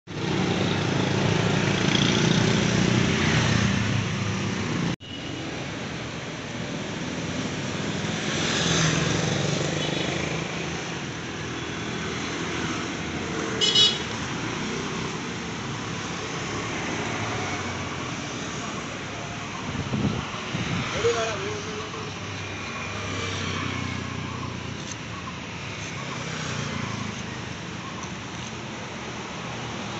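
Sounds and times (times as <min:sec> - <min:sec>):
passing cars and motorbikes: 0:00.1 - 0:29.9.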